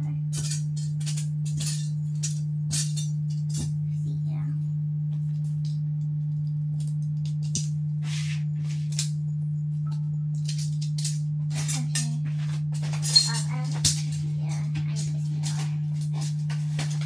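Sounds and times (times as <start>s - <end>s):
steady low hum: 0.0s - 17.0s
rustling and clicking of handled parts: 0.3s - 4.1s, 5.1s - 17.0s.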